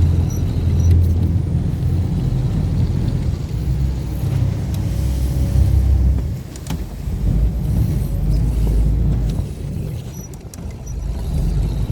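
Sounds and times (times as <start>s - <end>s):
boat engine rumble: 0.0s - 11.9s.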